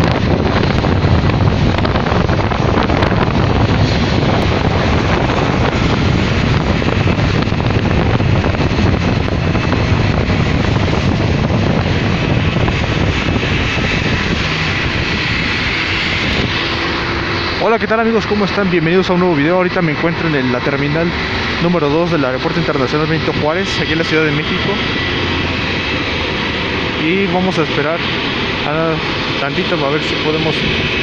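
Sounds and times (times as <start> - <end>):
high engine whine: 0.0 - 31.0
jet engines rumbling: 0.0 - 31.0.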